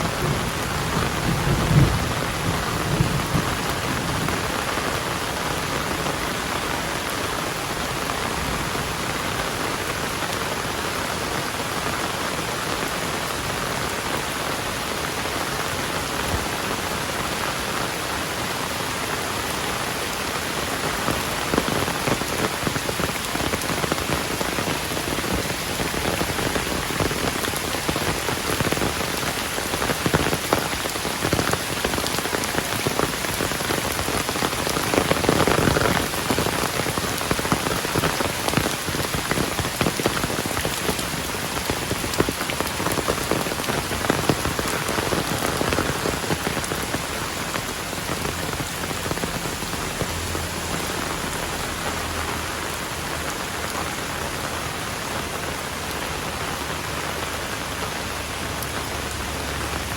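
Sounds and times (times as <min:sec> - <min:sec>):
heavy rain hissing: 0:00.0 - 0:59.9
spattering raindrops: 0:00.0 - 0:59.9.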